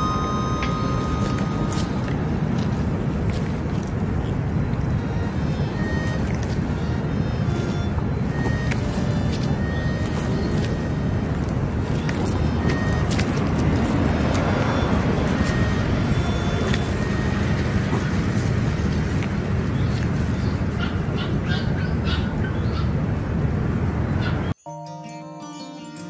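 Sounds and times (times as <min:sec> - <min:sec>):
road traffic rumble: 0:00.0 - 0:24.6.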